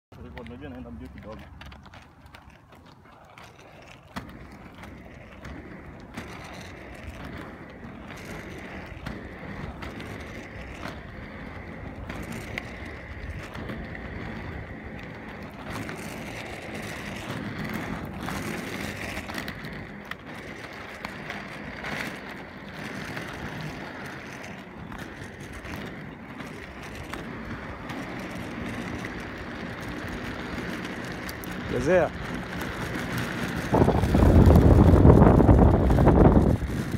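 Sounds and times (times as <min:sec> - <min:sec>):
skate wheels rolling on pavement: 0:00.1 - 0:36.9.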